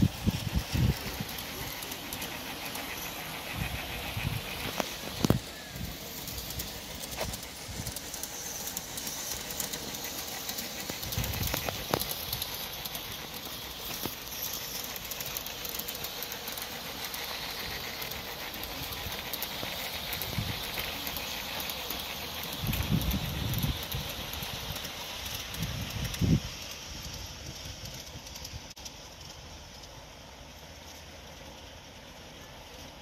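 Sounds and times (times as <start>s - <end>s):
model train wheels rolling on rails: 0.0s - 33.0s.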